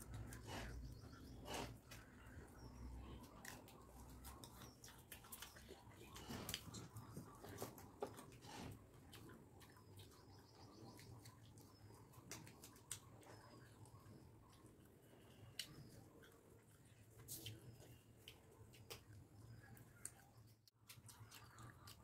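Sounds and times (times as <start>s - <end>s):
chewing: 0.0s - 22.0s
eating with fingers from steel plate: 0.0s - 22.0s.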